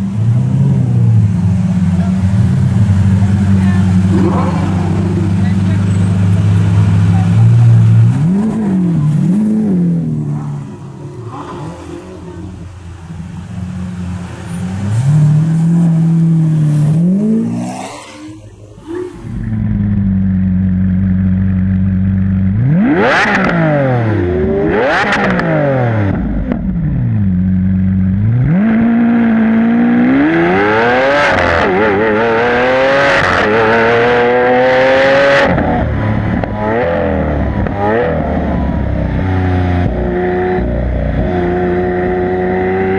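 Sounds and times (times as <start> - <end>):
sports car engine revving: 0.0 - 42.9.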